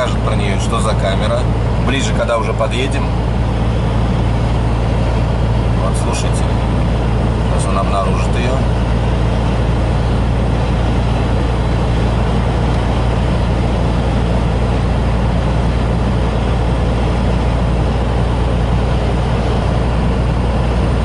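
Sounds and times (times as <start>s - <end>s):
truck engine drone: 0.0s - 21.0s
tyre and road noise: 0.0s - 21.0s.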